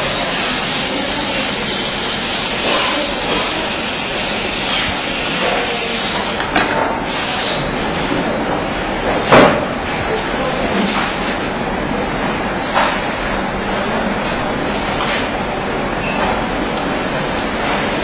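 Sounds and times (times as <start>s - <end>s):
steady loud hiss: 0.0s - 18.0s.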